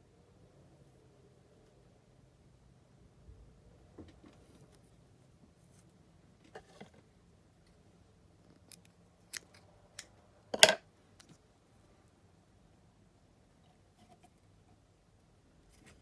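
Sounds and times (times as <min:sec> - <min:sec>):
soft rustle of material: 0:00.4 - 0:09.8, 0:10.9 - 0:16.0.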